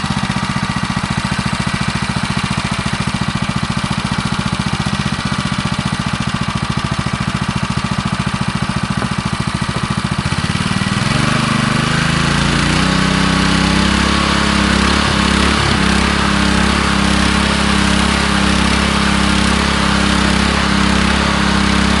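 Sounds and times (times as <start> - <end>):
petrol engine idling: 0.0 - 22.0.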